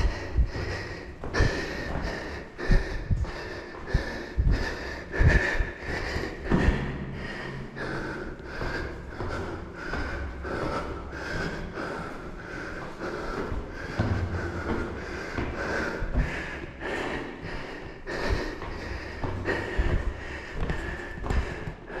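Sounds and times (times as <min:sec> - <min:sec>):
footsteps on stairs: 0:00.0 - 0:22.0
person breathing hard: 0:00.0 - 0:22.0.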